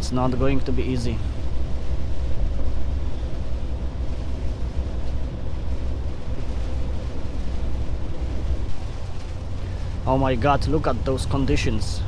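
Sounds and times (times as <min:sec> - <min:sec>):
road noise inside cab: 0:00.0 - 0:12.0.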